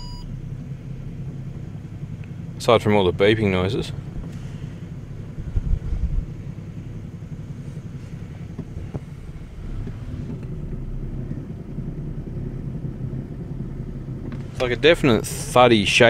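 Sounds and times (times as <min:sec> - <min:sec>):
engine running from inside cabin: 0:00.0 - 0:16.0
low shaky engine knocking: 0:00.3 - 0:16.0.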